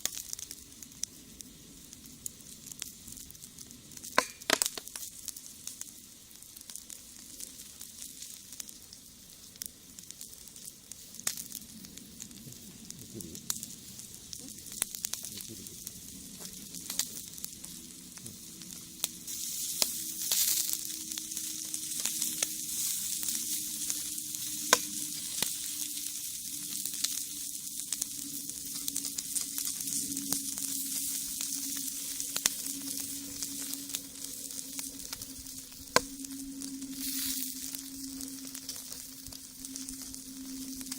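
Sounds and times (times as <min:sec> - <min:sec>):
fish sizzling on a grill: 0:00.0 - 0:40.9
wood fire crackling and popping: 0:00.0 - 0:40.9.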